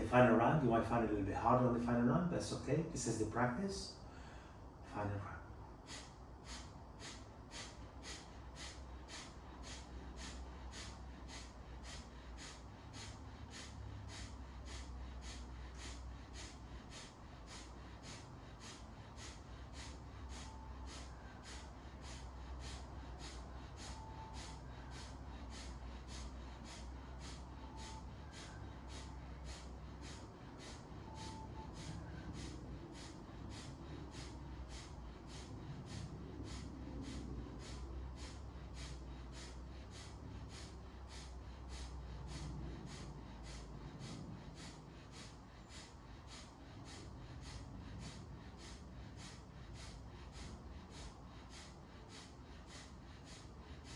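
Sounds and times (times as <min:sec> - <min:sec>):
sharp nasal exhalations: 0:05.8 - 0:53.9.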